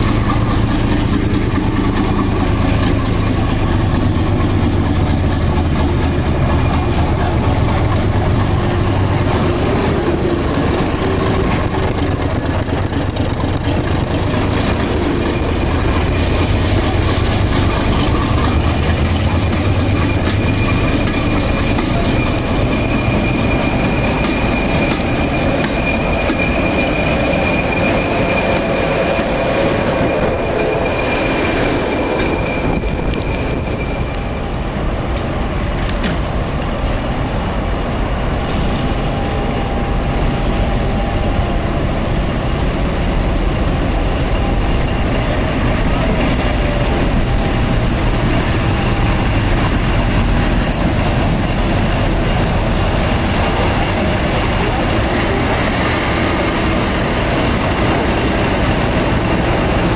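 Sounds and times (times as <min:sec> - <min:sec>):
train wheels squealing: 0:00.0 - 0:35.5, 0:38.2 - 0:59.9
diesel locomotive engine rumbling: 0:00.0 - 0:59.9.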